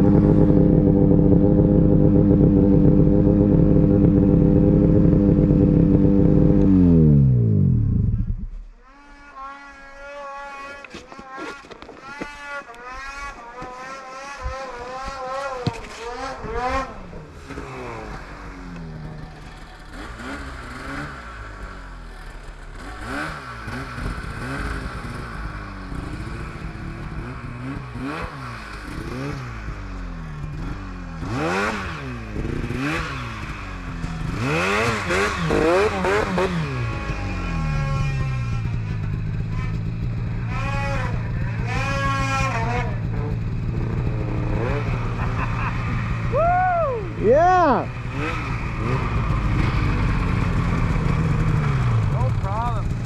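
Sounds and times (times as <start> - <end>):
snowmobile engines revving: 0.0 - 53.0.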